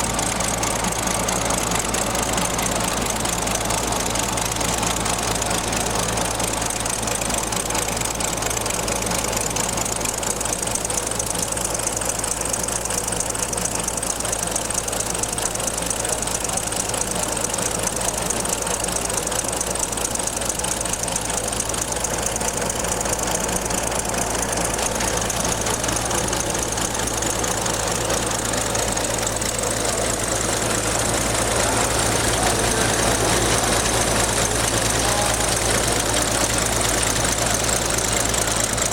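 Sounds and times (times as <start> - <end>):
small model engine clattering: 0.0 - 38.9.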